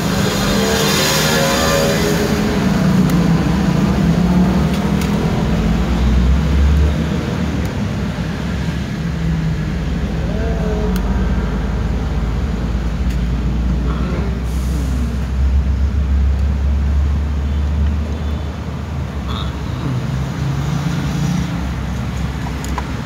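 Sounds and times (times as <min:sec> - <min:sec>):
low rumble of road traffic: 0:00.0 - 0:23.0.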